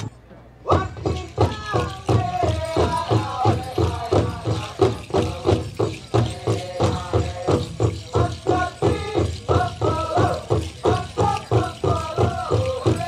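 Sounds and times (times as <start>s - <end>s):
drum steady beat: 0.7s - 13.0s
singers chanting: 0.7s - 13.0s.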